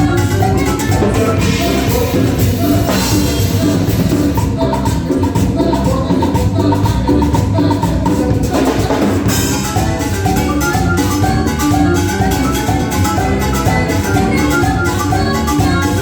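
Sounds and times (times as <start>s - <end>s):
drum kit and percussion: 0.0s - 16.0s
live band playing dance music: 0.0s - 16.0s.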